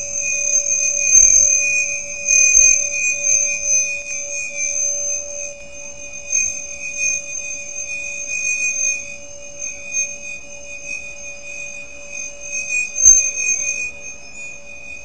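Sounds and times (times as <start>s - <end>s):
high-pitched electronic whine: 0.0s - 15.0s.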